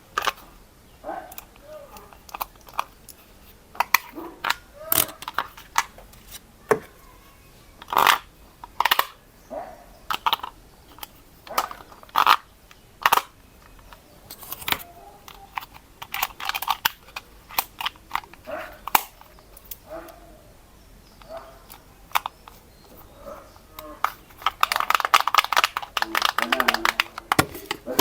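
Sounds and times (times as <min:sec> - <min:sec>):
objects being handled clicking: 0:00.1 - 0:00.6, 0:01.3 - 0:07.2, 0:07.8 - 0:09.2, 0:10.1 - 0:20.2, 0:21.0 - 0:28.0.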